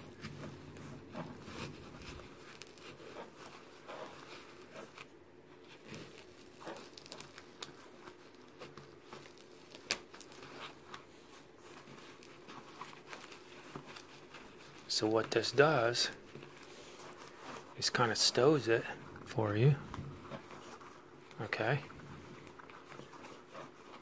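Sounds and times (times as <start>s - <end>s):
fabric rustling and scraping: 0.0s - 24.0s.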